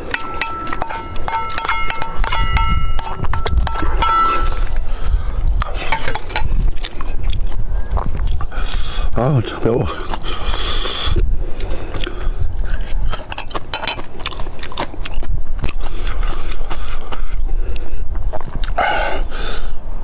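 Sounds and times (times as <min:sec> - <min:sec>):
crunchy chewing: 0:00.0 - 0:19.0
steady low rumble: 0:00.0 - 0:20.0.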